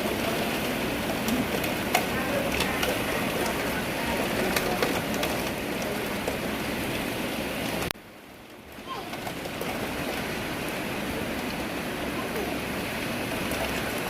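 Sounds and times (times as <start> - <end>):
raindrop ticks: 0.0 - 11.6
rain falling: 0.0 - 14.0.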